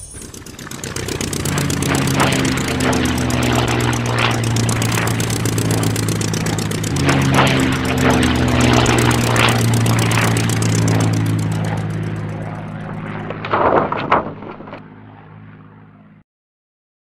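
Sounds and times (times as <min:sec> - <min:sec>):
plane swooshing past: 0:00.0 - 0:16.2
propeller plane engine drone: 0:00.0 - 0:16.2.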